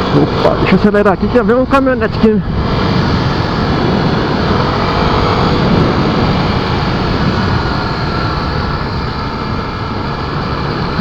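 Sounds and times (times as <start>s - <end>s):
motorcycle engine accelerating: 0.0s - 11.0s
wind noise on microphone: 1.6s - 11.0s.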